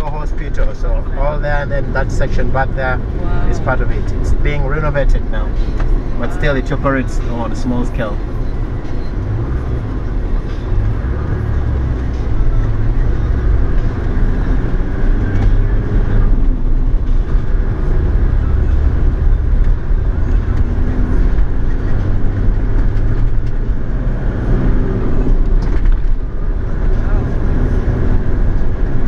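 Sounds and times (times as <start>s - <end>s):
car cabin road rumble: 0.0s - 29.0s.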